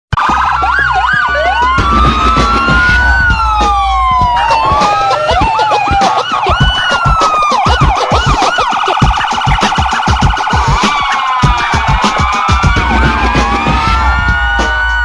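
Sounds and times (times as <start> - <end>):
wailing sirens: 0.1 - 15.0
warbling siren: 0.2 - 15.0.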